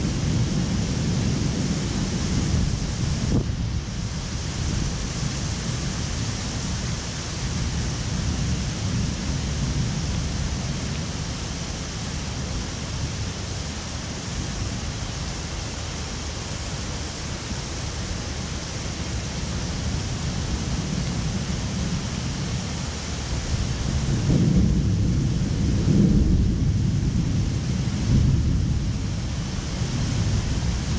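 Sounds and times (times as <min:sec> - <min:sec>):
heavy rain hissing: 0:00.0 - 0:30.9
low thunder rumble: 0:00.0 - 0:30.9.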